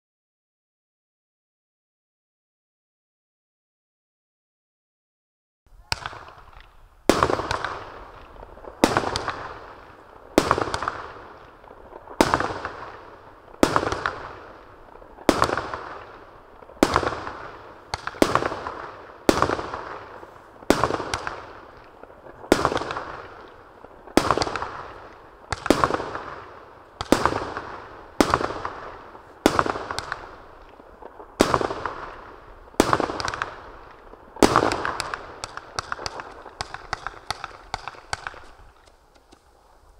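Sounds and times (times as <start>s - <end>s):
fireworks bangs: 5.8s - 39.9s.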